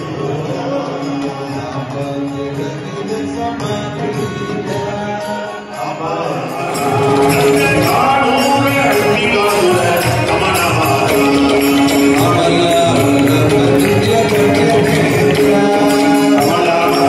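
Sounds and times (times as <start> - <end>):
group singing a chant: 0.0 - 17.0
percussion steady beat: 0.0 - 17.0.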